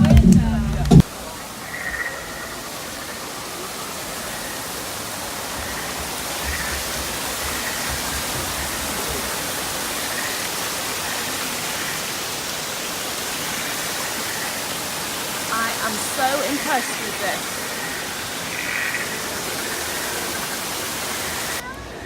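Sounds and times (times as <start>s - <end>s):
running water rushing: 0.9s - 22.0s.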